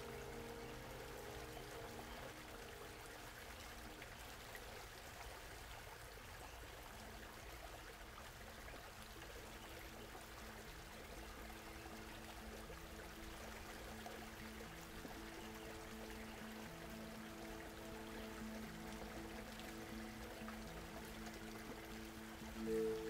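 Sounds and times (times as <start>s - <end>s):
creek water trickling: 0.0s - 23.0s
faint music with held notes: 0.0s - 23.0s.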